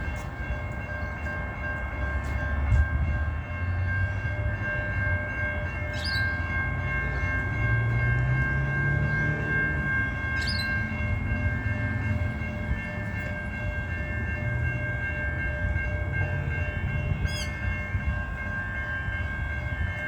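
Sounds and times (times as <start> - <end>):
crossing bell ringing tones: 0.0 - 20.0
train rumbling: 0.0 - 20.0.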